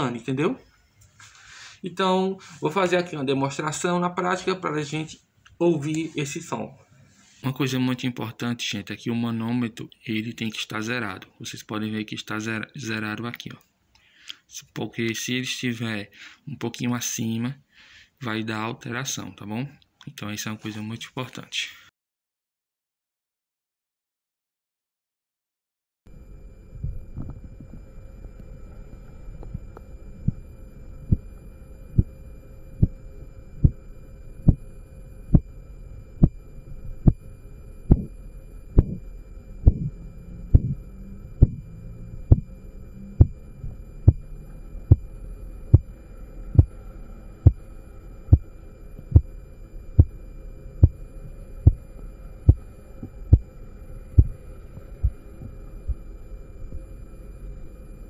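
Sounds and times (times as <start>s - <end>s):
faint steady hum: 0.0s - 21.9s, 26.1s - 58.0s.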